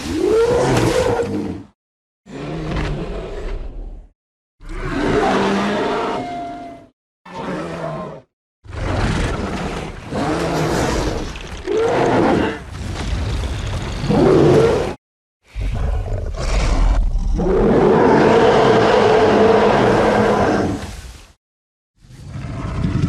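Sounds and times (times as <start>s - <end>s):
monster growls and roars: 0.0s - 21.0s, 22.1s - 23.0s.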